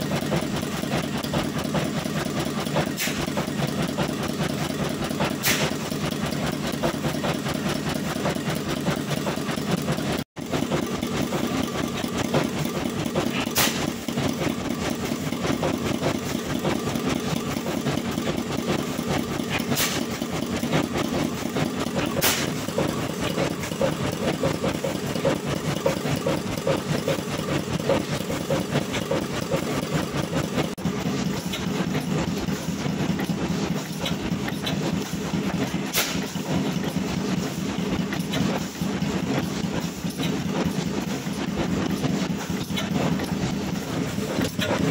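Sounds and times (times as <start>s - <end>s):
single-cylinder oil engine running: 0.0s - 44.9s
stationary engines chugging: 0.0s - 44.9s.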